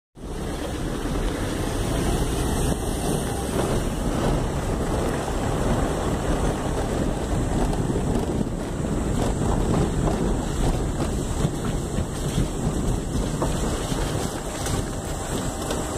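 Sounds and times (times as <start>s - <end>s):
wind and road noise: 0.2s - 15.9s
wind buffeting microphone: 0.2s - 15.9s.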